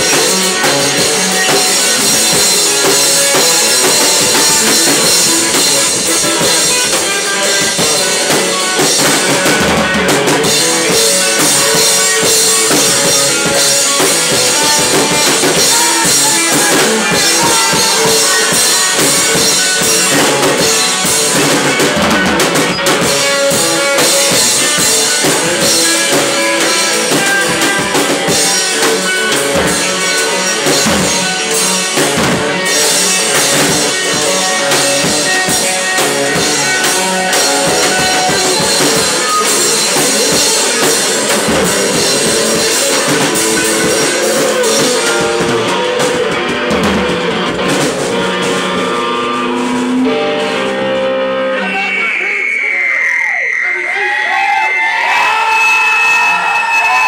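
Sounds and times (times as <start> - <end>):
drum kit with crashing cymbals: 0.0 - 51.1
electric guitar: 0.0 - 53.8.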